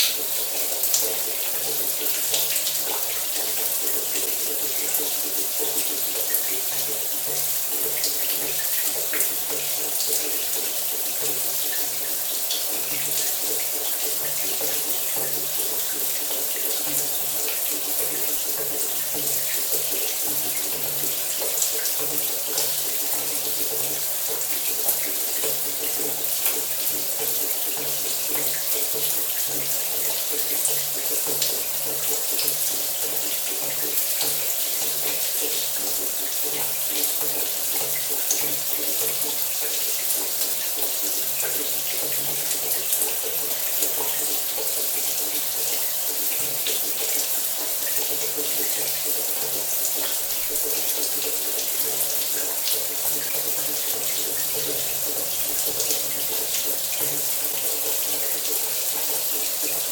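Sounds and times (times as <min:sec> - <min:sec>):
shower water running: 0:00.0 - 0:59.9.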